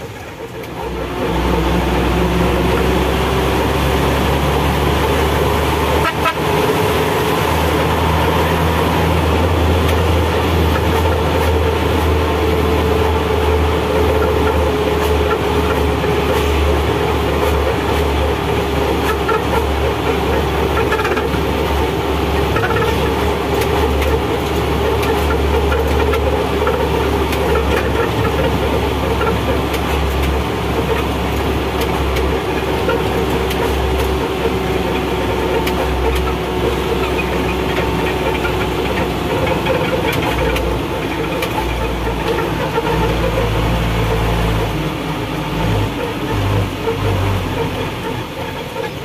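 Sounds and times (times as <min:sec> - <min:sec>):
diesel engine droning: 0:00.0 - 0:49.0
road noise: 0:00.0 - 0:49.0.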